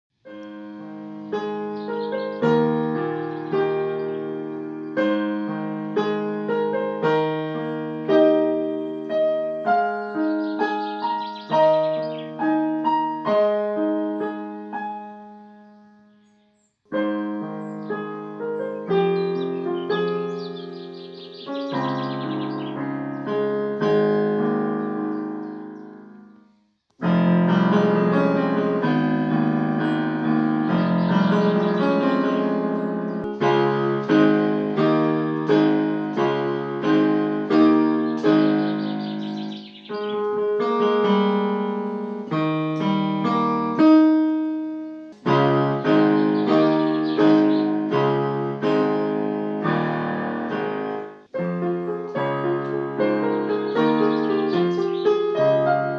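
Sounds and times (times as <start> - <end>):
solo piano playing: 0.2 - 55.9.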